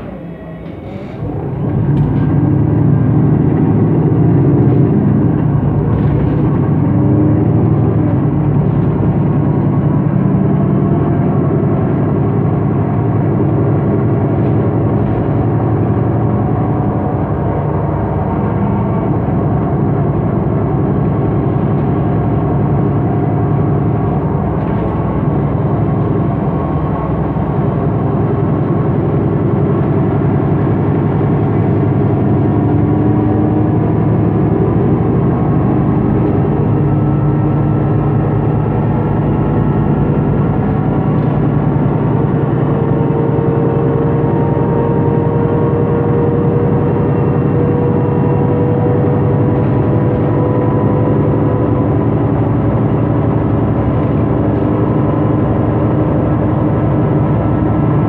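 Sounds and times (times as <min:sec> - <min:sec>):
bus engine drone with whine: 0:00.0 - 0:58.0.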